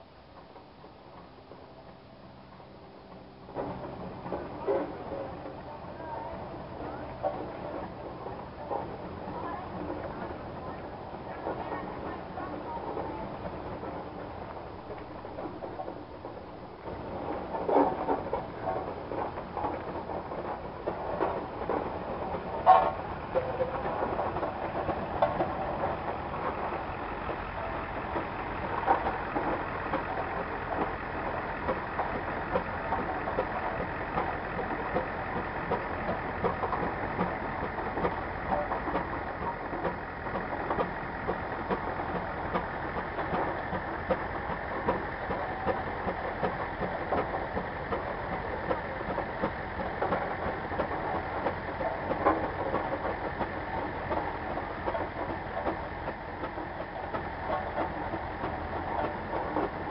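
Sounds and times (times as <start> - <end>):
old machinery clattering: 0.0 - 59.9.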